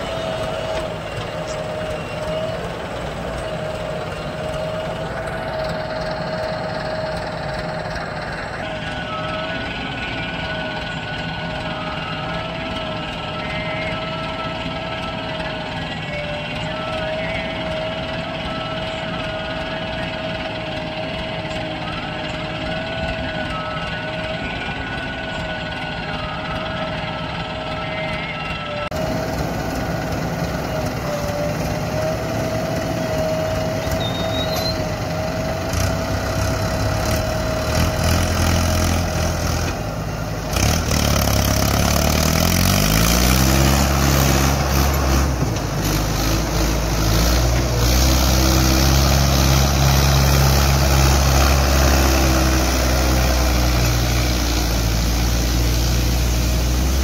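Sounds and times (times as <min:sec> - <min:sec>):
diesel engines running: 0:00.0 - 0:57.0
tractor engine revving: 0:00.0 - 0:57.0.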